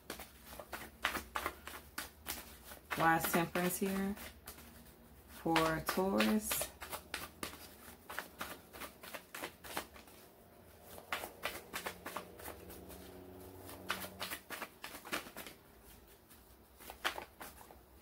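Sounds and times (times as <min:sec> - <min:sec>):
cards being shuffled by hand: 0:00.0 - 0:18.0.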